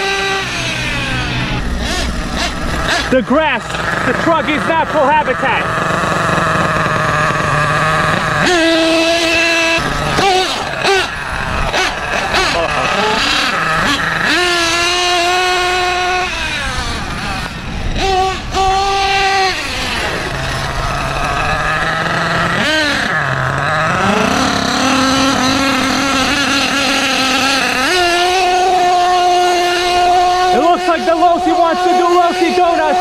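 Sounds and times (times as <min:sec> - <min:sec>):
model nitro engine revving: 0:00.0 - 0:33.0.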